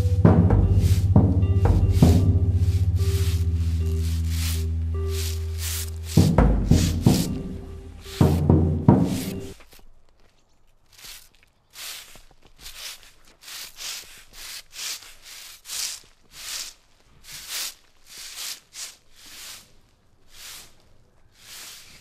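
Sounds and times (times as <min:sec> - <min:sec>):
brooms sweeping leaves on asphalt: 0:00.0 - 0:09.9, 0:10.8 - 0:22.0.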